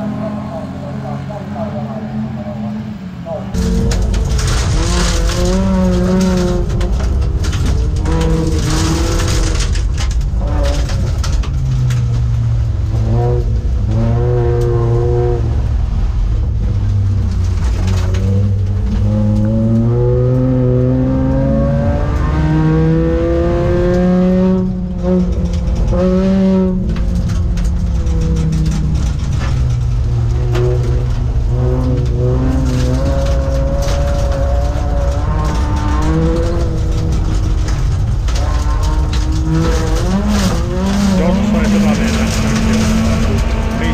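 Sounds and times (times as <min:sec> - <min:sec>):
car engine at full throttle: 0:00.0 - 0:43.9.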